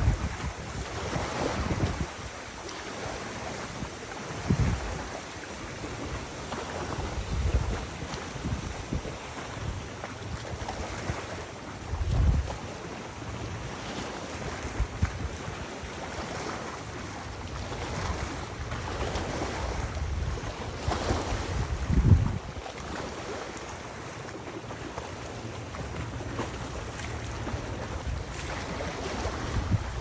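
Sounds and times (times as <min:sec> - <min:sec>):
rushing water: 0:00.0 - 0:30.0
wind buffeting microphone: 0:00.0 - 0:30.0.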